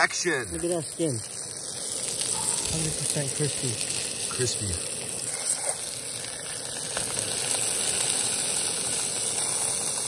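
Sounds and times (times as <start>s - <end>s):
fish frying with high sizzle: 0.0s - 10.0s.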